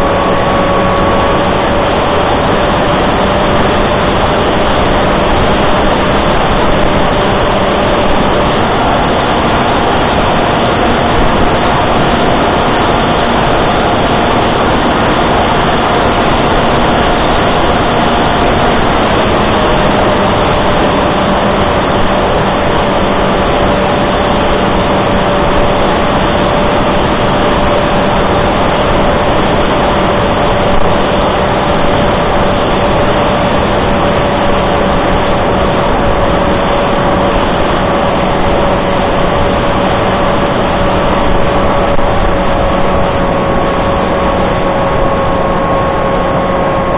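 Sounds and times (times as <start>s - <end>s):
airflow rush over microphone: 0.0s - 46.9s
electric motor and propeller whine: 0.0s - 46.9s.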